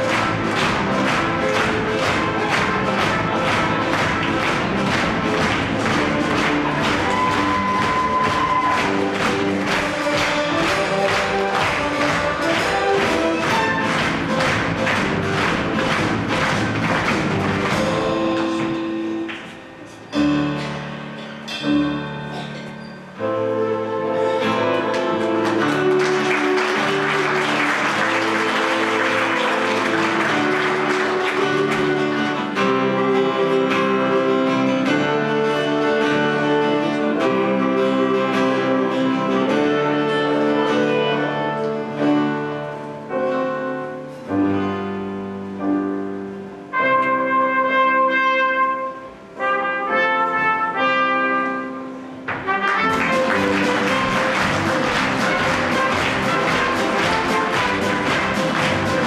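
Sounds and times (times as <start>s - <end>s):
acoustic guitar: 0.0s - 59.0s
live stage music: 0.0s - 59.0s.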